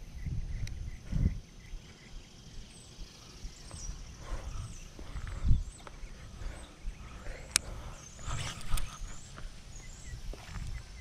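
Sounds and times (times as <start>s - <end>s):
wind and handling on microphone: 0.0s - 2.0s, 3.5s - 11.0s
faint high bird chirps: 0.0s - 11.0s.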